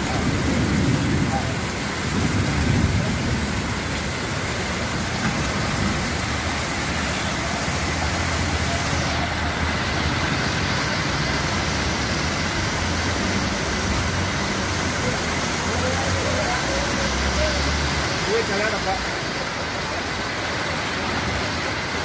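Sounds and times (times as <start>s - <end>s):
floodwater rushing: 0.0s - 22.0s
heavy rain: 0.0s - 22.0s
vehicles driving through water: 0.0s - 22.0s.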